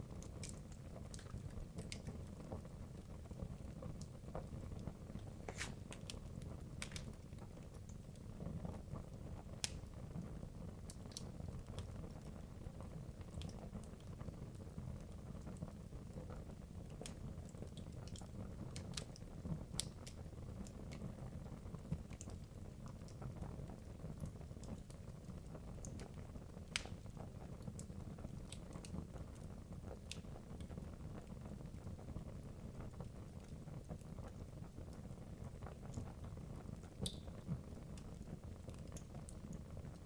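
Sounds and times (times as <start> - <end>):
fire burning in a fireplace: 0.0 - 40.0
wood crackling and popping: 0.0 - 40.0.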